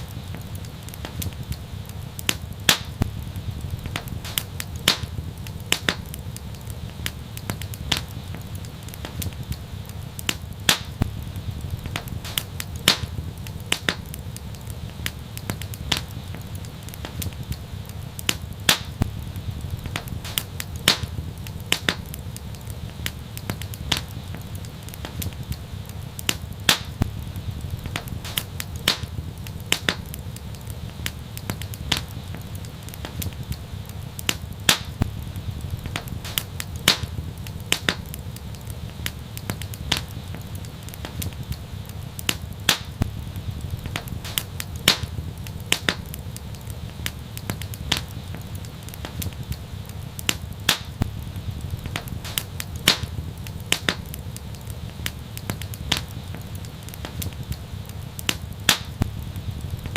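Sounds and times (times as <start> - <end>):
low steady rumble: 0.0 - 42.1, 43.0 - 50.1, 51.0 - 56.9, 59.0 - 59.9
fire crackling and popping: 0.0 - 59.9.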